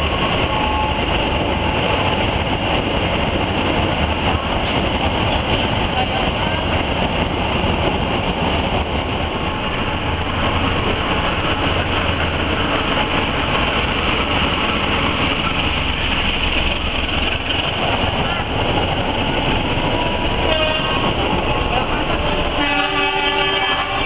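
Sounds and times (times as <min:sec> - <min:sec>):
diesel locomotive passing: 0:00.0 - 0:24.0
train wheels rumbling: 0:00.0 - 0:24.0.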